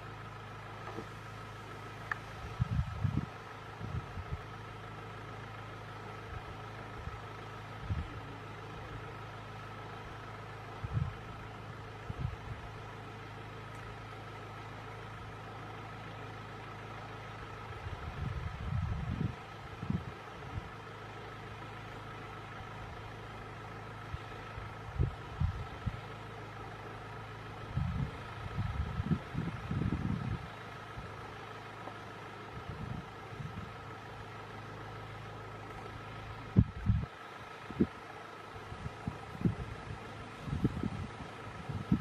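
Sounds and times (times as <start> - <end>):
vehicle engine idling: 0.0 - 42.0.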